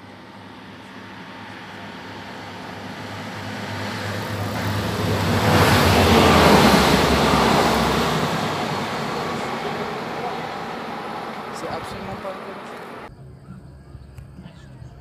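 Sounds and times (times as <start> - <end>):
diesel railcar engine hum: 0.0 - 15.0
train wheels on rails: 1.0 - 13.1.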